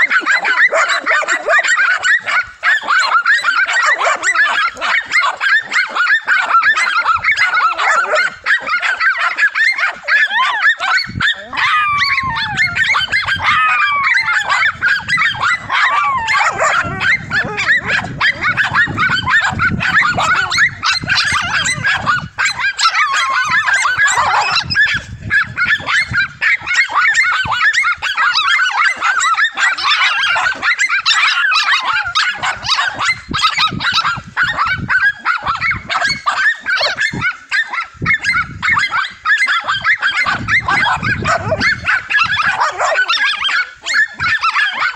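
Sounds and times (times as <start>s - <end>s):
dogs whining: 0.0s - 44.9s
small dogs barking and yapping: 0.0s - 44.9s.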